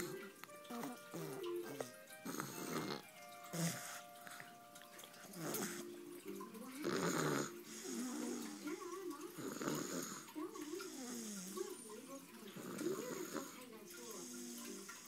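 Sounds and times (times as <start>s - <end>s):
person snoring: 0.0s - 4.4s, 5.2s - 5.9s, 6.8s - 11.6s, 12.6s - 15.0s.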